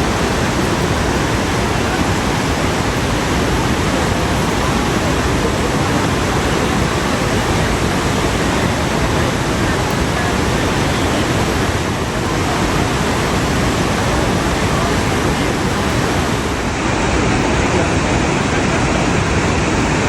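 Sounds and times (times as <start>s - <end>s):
large waterfall rushing: 0.0s - 20.0s.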